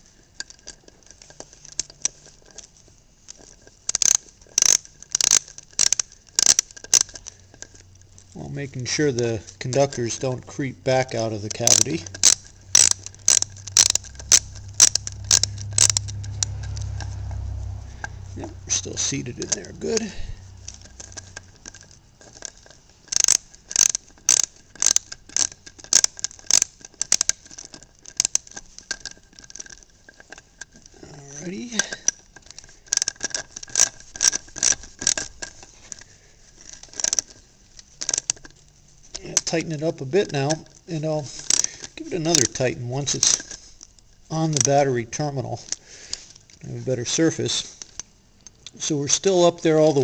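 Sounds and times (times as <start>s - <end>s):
steady low hum: 0.0s - 50.0s
metallic clicks of hand tool: 3.3s - 50.0s.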